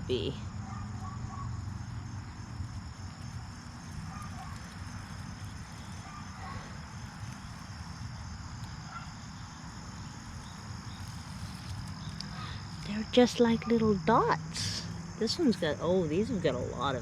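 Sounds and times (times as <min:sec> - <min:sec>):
high insect chirring: 0:00.0 - 0:17.0.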